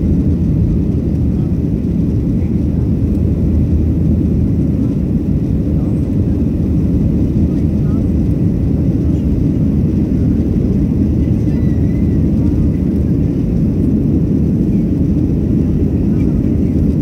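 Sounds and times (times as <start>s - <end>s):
airplane cabin jet engine noise: 0.0s - 17.0s.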